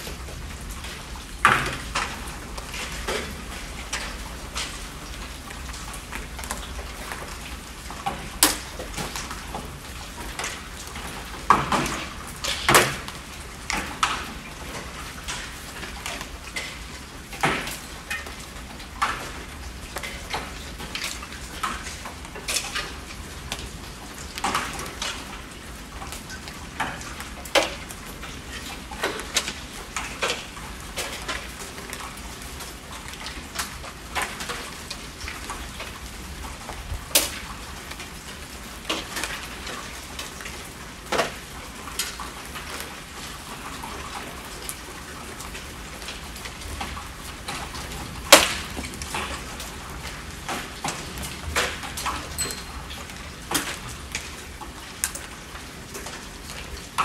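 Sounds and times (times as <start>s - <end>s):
heavy raindrops tapping: 0.0s - 57.0s
steady rain hiss: 0.0s - 57.0s.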